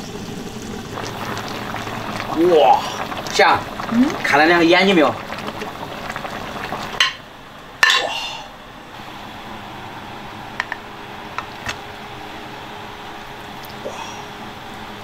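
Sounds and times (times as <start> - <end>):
liquid simmering in a wok: 0.0 - 15.0.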